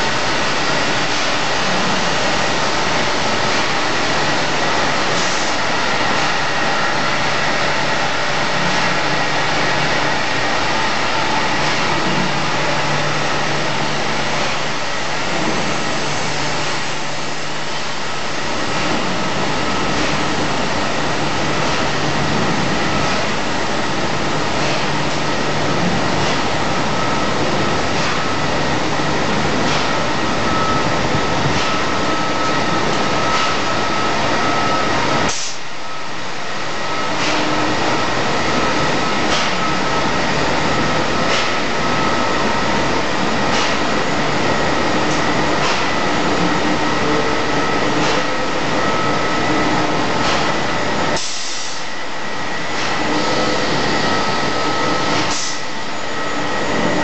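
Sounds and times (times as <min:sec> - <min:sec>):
machinery drone: 0:00.0 - 0:57.0.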